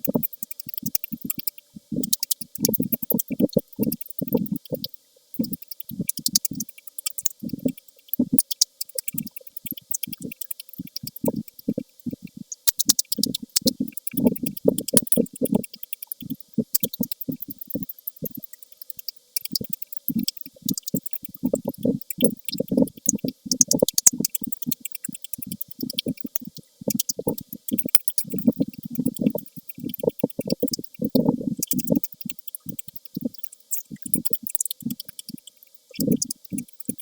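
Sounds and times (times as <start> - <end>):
wet mouth clicks: 0.0 - 37.0.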